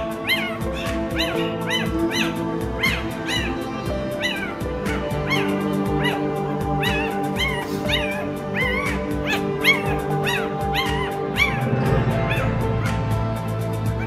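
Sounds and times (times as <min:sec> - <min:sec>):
puppy whimpering: 0:00.0 - 0:13.0
background music: 0:00.0 - 0:14.0.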